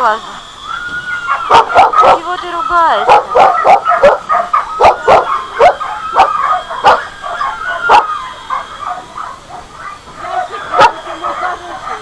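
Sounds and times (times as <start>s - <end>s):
dogs whining: 0.5s - 12.0s
dogs barking: 1.1s - 12.0s.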